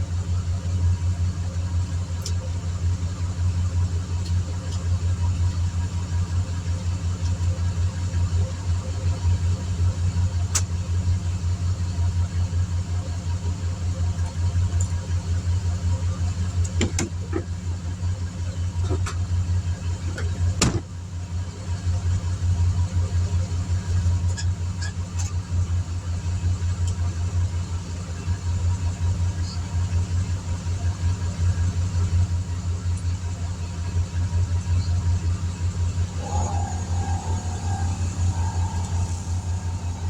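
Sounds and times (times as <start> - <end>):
engine running with pulsing hum: 0.0 - 40.0.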